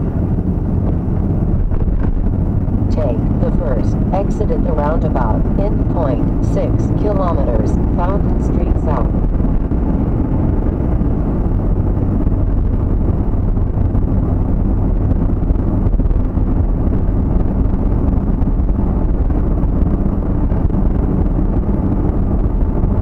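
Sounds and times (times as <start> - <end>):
road and engine rumble in vehicle: 0.0 - 23.0.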